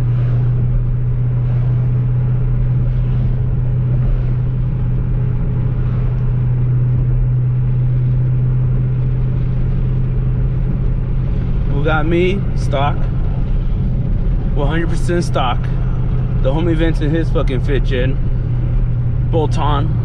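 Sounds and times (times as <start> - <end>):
car engine drone: 0.0 - 20.0
road noise: 0.0 - 20.0.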